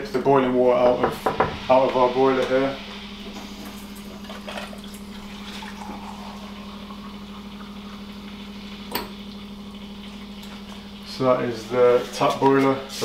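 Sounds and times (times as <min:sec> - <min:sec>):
steady low hum: 0:00.0 - 0:13.0
hot water running into a glass: 0:01.0 - 0:13.0.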